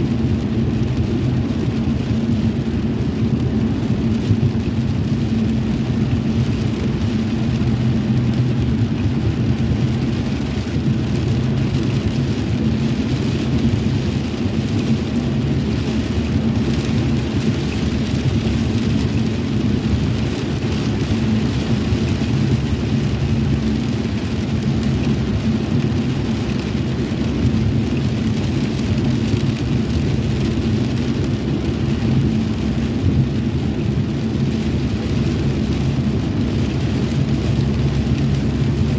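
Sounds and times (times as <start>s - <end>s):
low rumble: 0.0s - 38.9s
steady rain: 0.0s - 38.9s.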